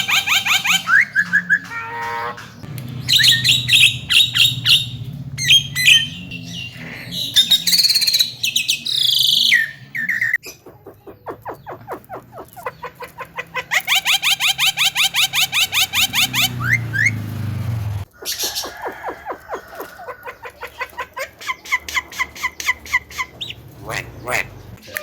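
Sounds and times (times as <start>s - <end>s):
myna bird singing: 0.0s - 25.0s.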